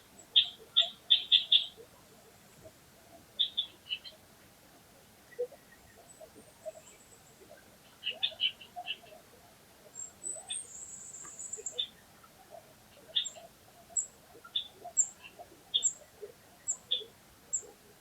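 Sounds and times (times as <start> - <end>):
small birds chirping: 0.0 - 4.2, 5.3 - 18.0.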